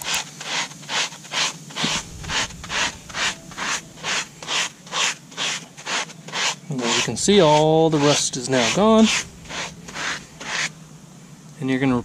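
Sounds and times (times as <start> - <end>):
scrub pad scraping on wet pavers: 0.0 - 10.8.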